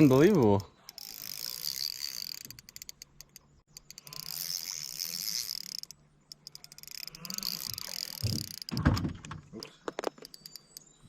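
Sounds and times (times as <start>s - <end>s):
fishing reel drag clicking: 0.0s - 8.8s, 9.6s - 10.9s.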